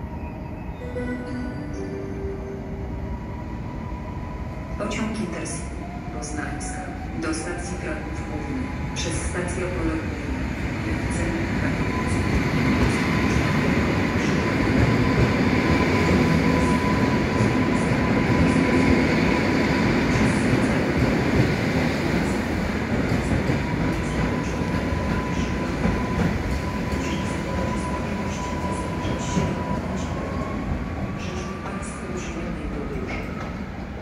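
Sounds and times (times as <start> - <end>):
train running noise: 6.2 - 33.6.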